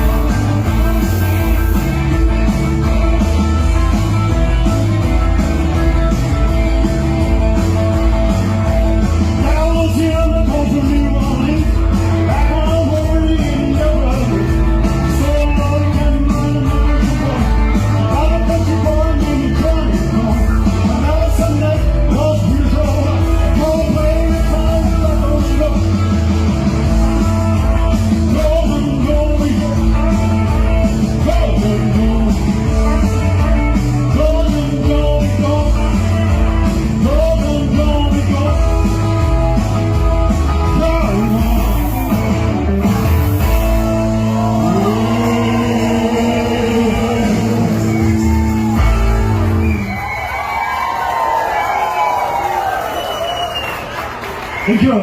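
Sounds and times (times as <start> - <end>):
person singing: 0.0 - 4.2, 5.7 - 49.3
steady beat: 0.0 - 50.1
guitar: 0.0 - 55.0.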